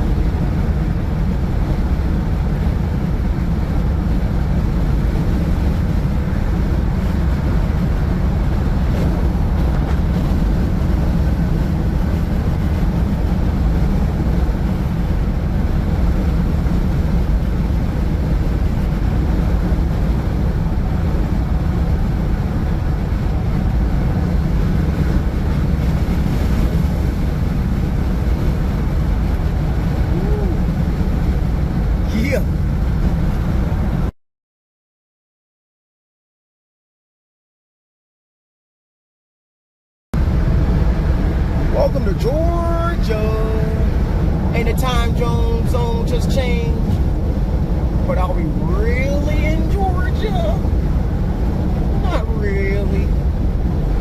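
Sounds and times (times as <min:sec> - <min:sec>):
tyre and engine rumble: 0:00.0 - 0:34.1, 0:40.2 - 0:54.0
wind noise: 0:00.0 - 0:34.1, 0:40.2 - 0:54.0.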